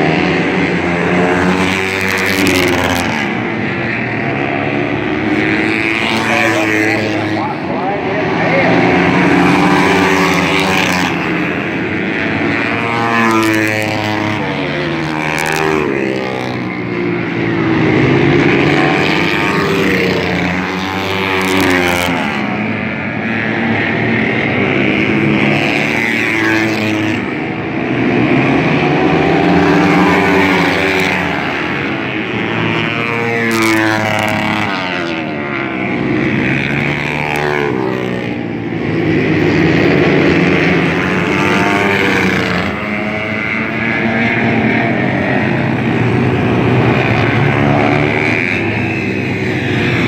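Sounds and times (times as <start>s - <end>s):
dirt bike engines racing: 0.0s - 50.0s.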